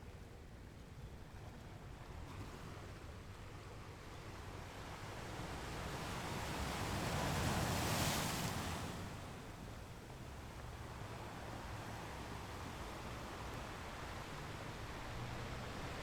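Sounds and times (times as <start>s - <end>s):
low rumble of the sea: 0.0s - 16.0s.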